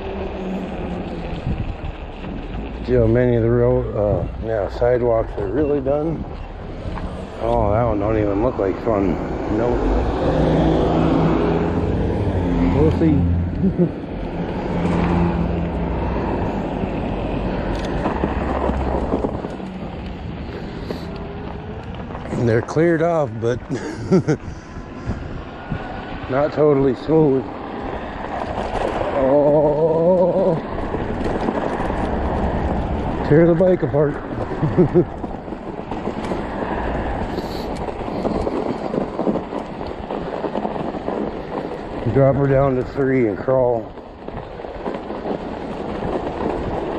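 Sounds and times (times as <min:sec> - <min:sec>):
bike tyres rumbling on snow: 0:00.0 - 0:46.9
wind noise on microphone: 0:00.0 - 0:46.9.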